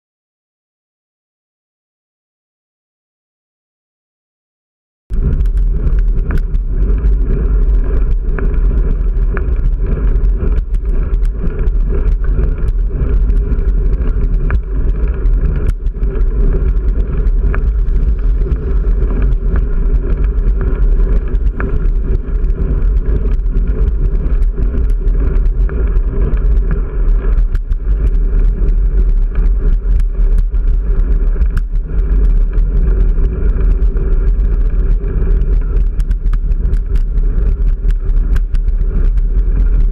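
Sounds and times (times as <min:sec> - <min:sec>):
bike rumbling on rough road: 0:05.1 - 0:39.9.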